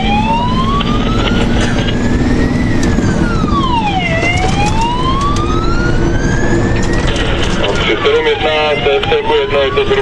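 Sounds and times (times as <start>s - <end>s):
fire engine siren wailing: 0.0s - 10.0s
road noise: 0.0s - 10.0s
truck engine drone: 0.0s - 10.0s.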